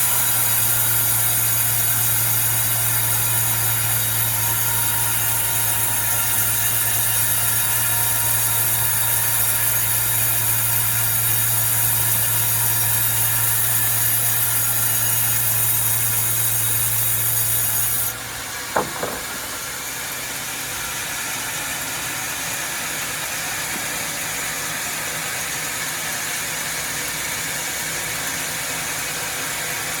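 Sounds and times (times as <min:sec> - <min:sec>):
sawmill machinery humming: 0:00.0 - 0:29.9.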